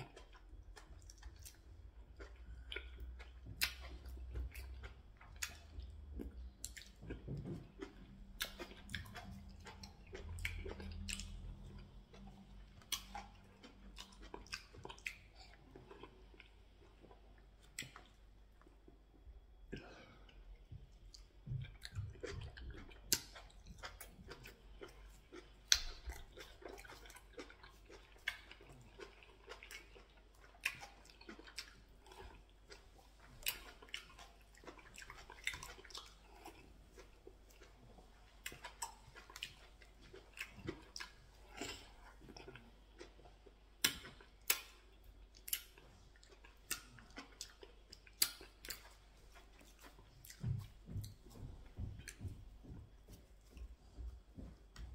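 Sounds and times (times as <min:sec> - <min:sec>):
wet chewing and lip smacks: 0:00.0 - 0:19.0, 0:20.6 - 0:52.3.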